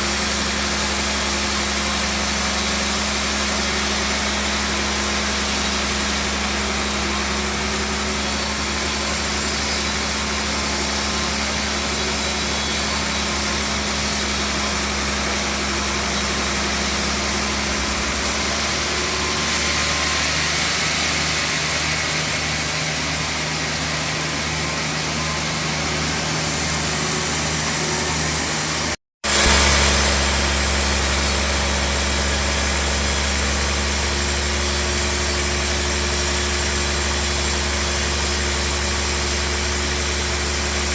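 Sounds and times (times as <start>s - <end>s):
band sawmill humming: 0.0s - 40.9s.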